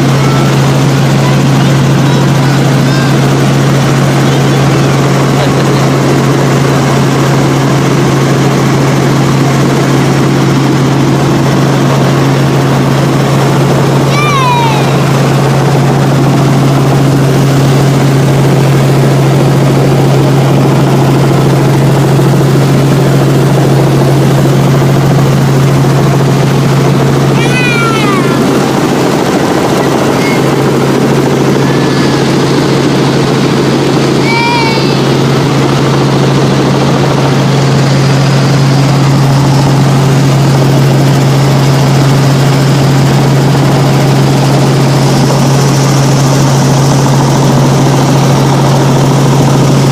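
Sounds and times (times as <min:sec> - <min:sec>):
helicopter running: 0:00.0 - 0:49.9.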